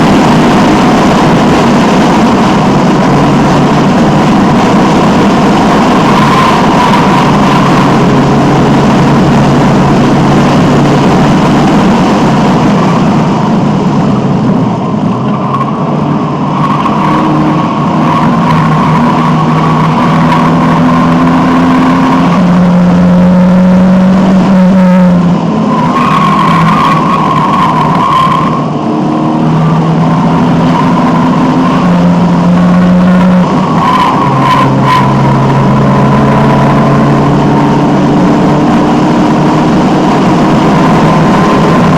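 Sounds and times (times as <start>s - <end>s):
racing car engine changing gears: 0.0s - 41.9s.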